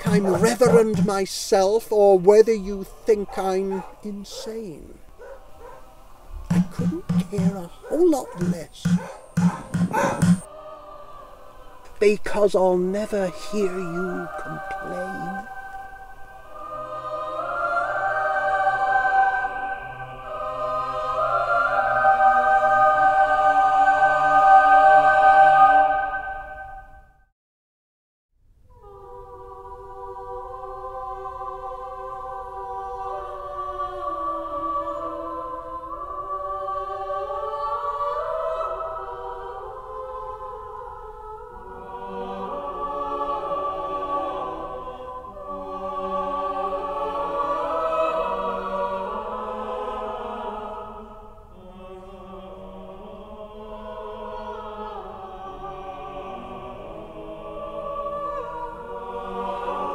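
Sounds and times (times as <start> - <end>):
choir singing held chords: 0.0 - 27.2, 28.7 - 59.9.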